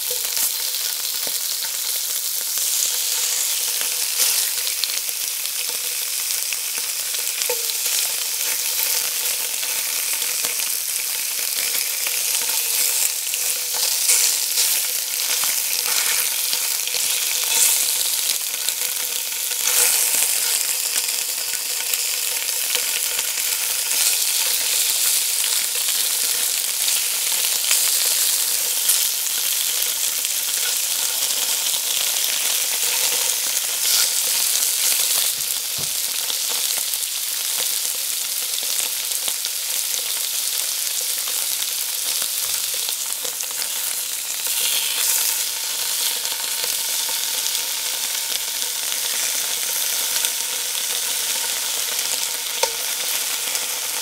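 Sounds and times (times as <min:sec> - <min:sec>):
tofu sizzling in hot oil: 0:00.0 - 0:54.0.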